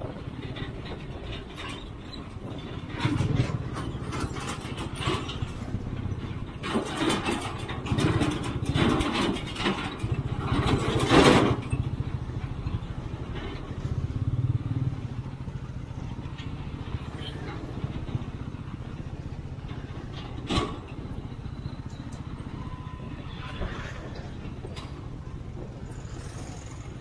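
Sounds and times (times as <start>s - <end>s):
motorcycle engine running: 2.4s - 27.0s.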